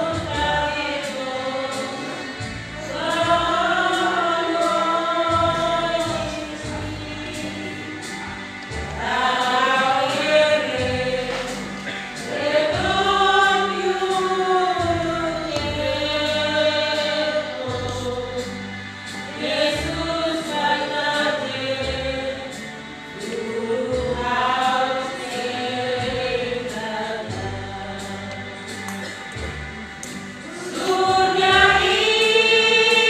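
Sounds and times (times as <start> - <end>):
church choir singing a hymn: 0.0 - 33.0.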